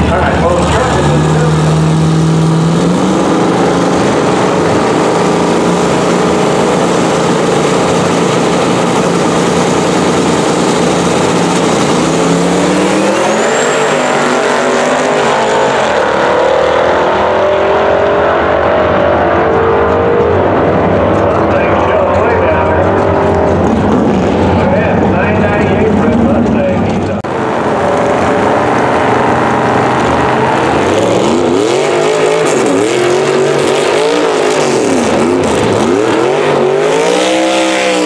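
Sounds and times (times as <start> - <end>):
drag car engines accelerating: 0.0 - 38.0.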